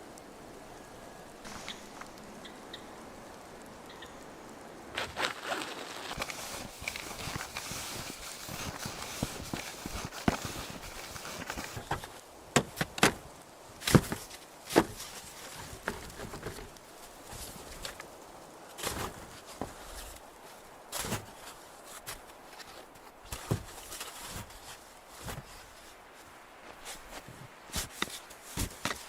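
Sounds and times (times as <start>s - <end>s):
footsteps crunching in snow: 4.9s - 29.0s.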